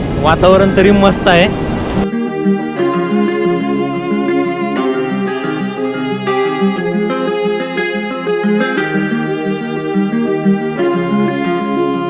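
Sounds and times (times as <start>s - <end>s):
violin-like melody: 0.4s - 12.0s
plucked guitar notes: 1.7s - 12.0s.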